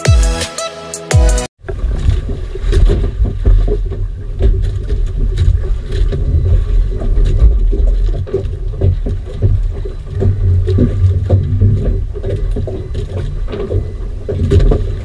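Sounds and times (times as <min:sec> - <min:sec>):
boat engine rumble: 0:01.6 - 0:15.0
water splashing against hull: 0:01.6 - 0:15.0.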